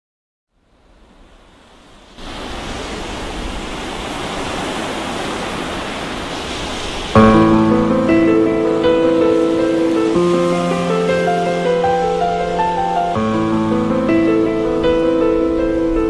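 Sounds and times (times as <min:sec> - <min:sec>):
rushing water: 0:00.8 - 0:16.0.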